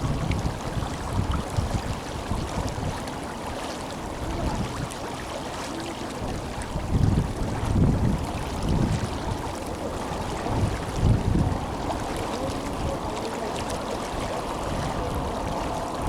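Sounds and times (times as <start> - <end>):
river current rushing: 0.0 - 16.0
wind buffeting microphone: 0.0 - 16.0.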